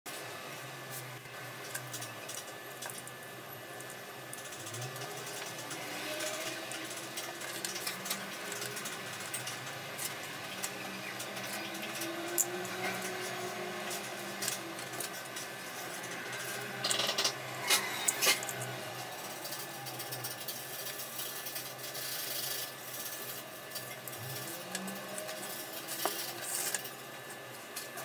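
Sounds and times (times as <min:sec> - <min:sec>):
small clicks and scrapes: 0:00.9 - 0:03.2, 0:03.8 - 0:28.0.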